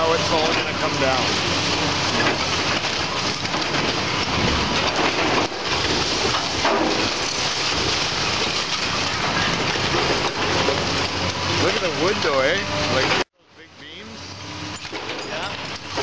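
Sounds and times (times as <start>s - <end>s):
timber splintering and crunching: 0.0s - 13.0s
falling debris: 0.0s - 13.2s, 14.6s - 16.0s
excavator diesel engine: 0.0s - 16.0s.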